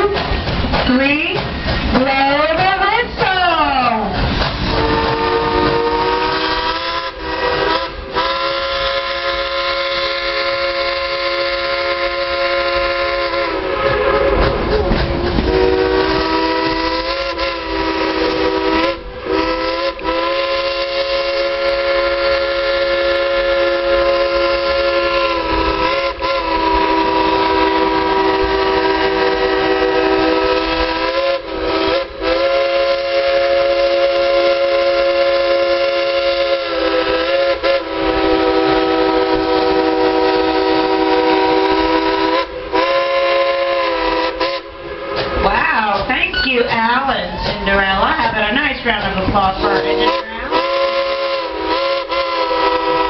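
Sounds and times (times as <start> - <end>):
steam locomotive chime whistle: 4.7 - 14.6, 15.3 - 53.0.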